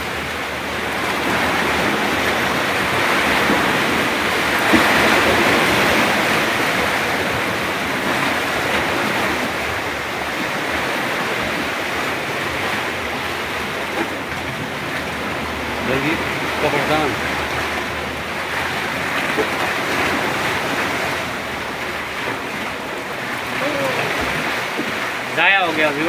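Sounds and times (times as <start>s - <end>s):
fast-running sea water rushing: 0.0s - 26.0s.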